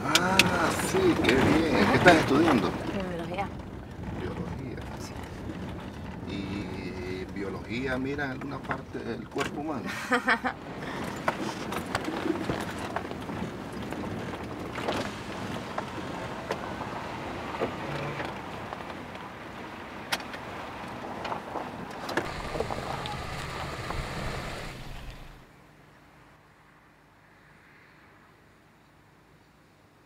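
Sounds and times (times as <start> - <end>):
engine and tyres rumbling: 0.0 - 30.0.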